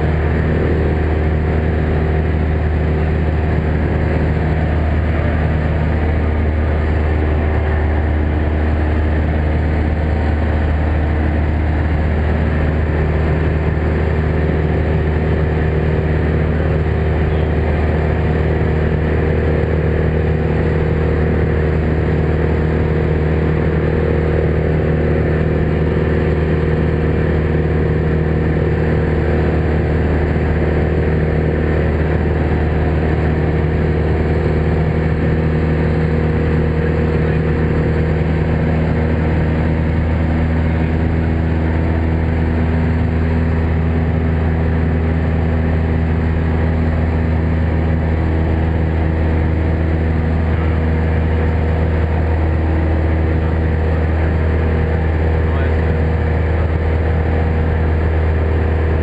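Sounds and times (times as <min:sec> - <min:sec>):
light aircraft engine drone: 0:00.0 - 0:59.0.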